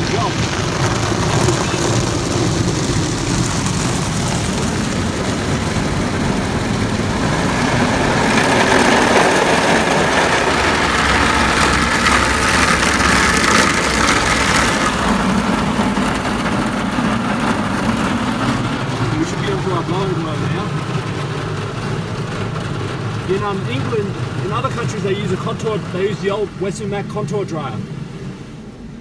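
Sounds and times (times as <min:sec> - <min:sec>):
car wash brushes and water sprays: 0:00.0 - 0:29.0.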